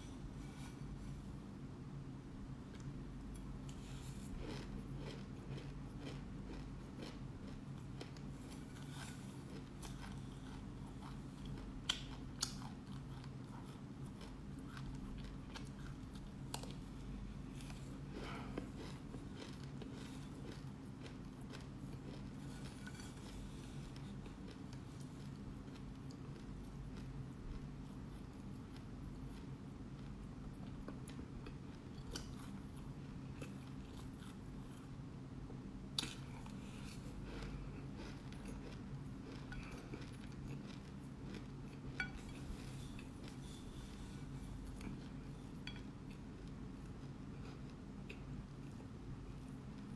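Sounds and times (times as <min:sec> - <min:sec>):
low steady hum: 0:00.0 - 0:49.9
seeds being chewed and crunched: 0:02.6 - 0:34.9, 0:35.9 - 0:49.9.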